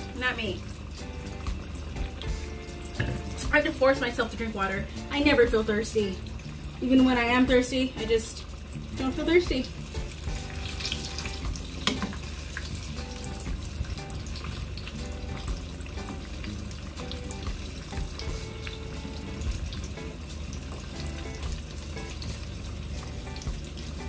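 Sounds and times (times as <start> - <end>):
oil sizzling and popping in a pan: 0.0 - 24.0.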